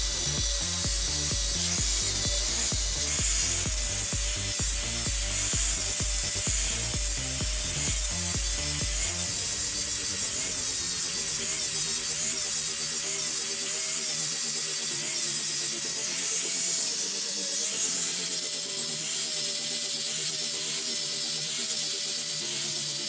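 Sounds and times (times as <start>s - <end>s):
background music with low beat: 0.0s - 23.0s
tool whining on metal: 0.0s - 23.0s.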